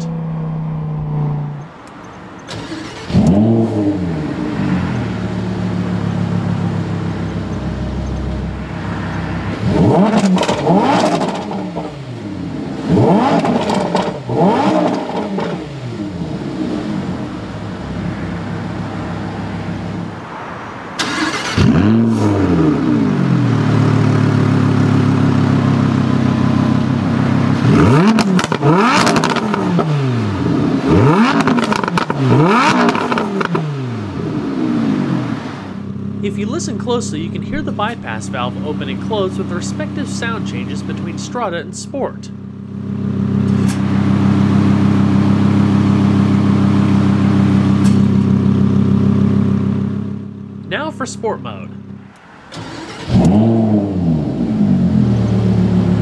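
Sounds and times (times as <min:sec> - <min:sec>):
sports car engine idling and revving: 0:00.0 - 0:56.0.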